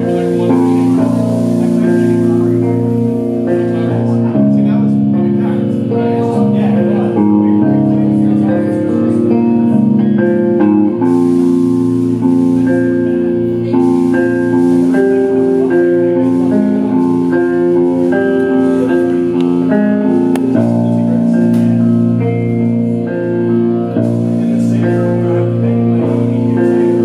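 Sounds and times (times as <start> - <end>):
band playing instrumental: 0.0 - 27.0.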